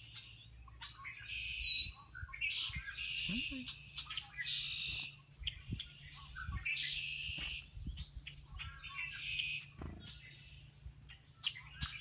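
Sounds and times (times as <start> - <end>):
chickadees calling: 0.0 - 12.0
low steady hum: 0.0 - 12.0.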